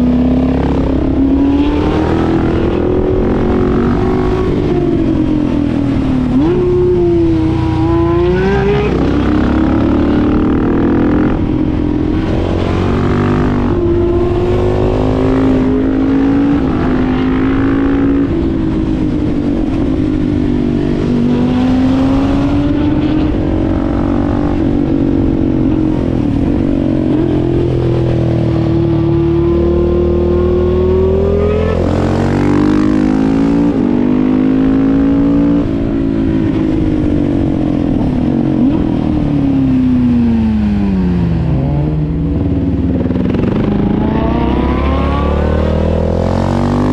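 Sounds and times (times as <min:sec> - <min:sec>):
motorcycle engine revving: 0:00.0 - 0:46.9
road and wind noise: 0:00.0 - 0:46.9
sports car engines revving: 0:00.0 - 0:46.9.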